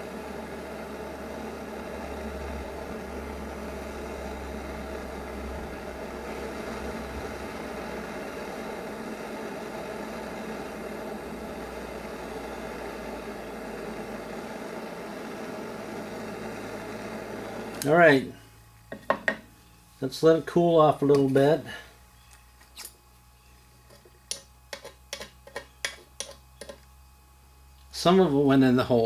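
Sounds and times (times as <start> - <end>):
heating tool hum and hiss: 0.0 - 29.0.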